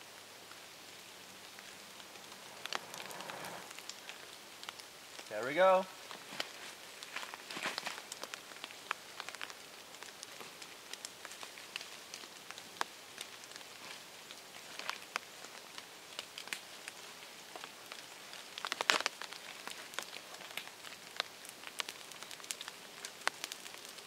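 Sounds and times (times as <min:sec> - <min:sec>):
faint fire hiss: 0:00.0 - 0:24.0
tinder crackling and popping: 0:00.0 - 0:24.0.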